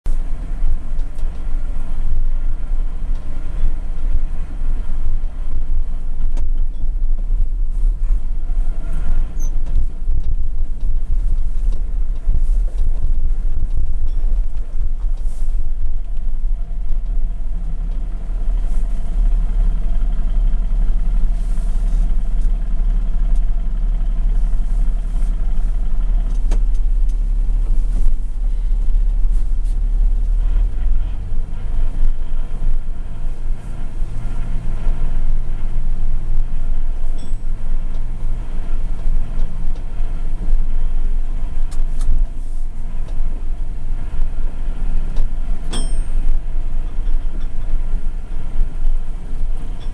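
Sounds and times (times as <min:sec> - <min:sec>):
truck engine running: 0:00.1 - 0:49.9.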